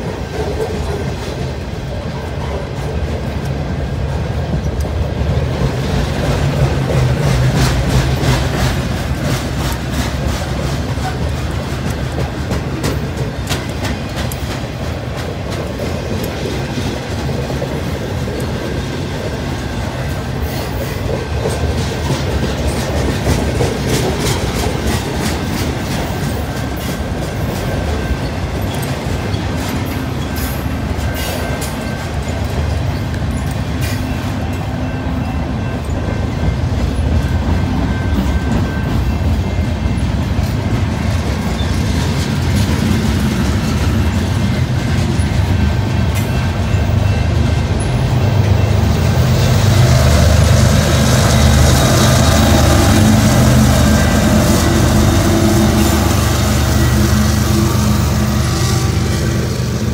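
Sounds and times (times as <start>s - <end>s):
freight train cars rumbling: 0.0s - 59.9s
wheels clicking over rail joints: 0.0s - 59.9s.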